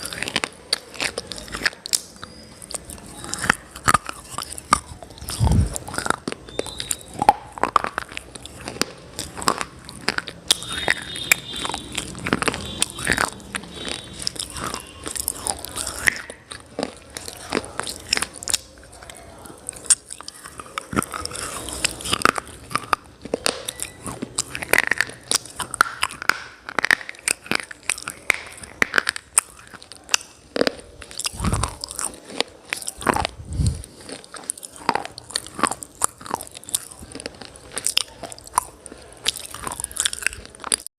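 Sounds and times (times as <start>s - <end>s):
person chewing brittle pieces: 0.0s - 40.9s.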